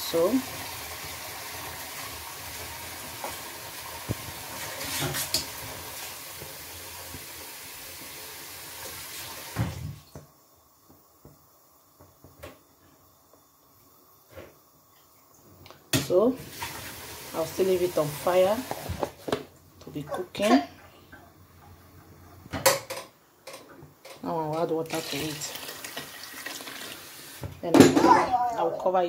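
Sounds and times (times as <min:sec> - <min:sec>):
stock simmering and bubbling: 0:00.0 - 0:27.6.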